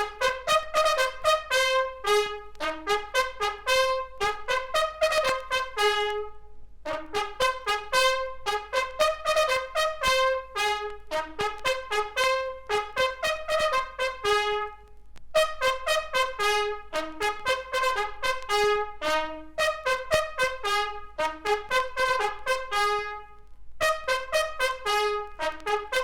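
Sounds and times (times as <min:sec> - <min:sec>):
bugle playing military call: 0:00.0 - 0:26.0.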